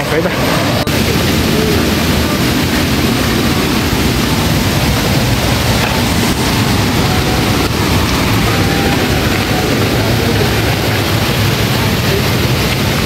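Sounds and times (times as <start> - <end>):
water rushing from a dam: 0.0 - 13.0.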